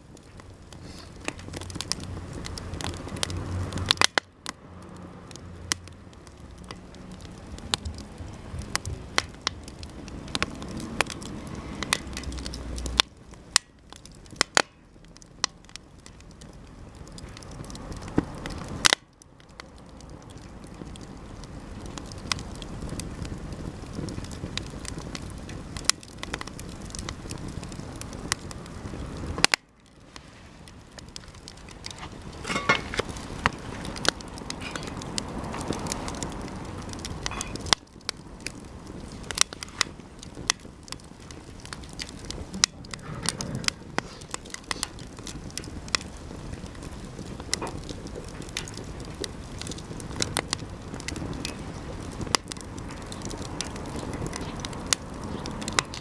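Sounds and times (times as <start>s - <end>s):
campfire flames rushing: 0.0s - 56.0s
fire crackling and popping: 0.0s - 56.0s.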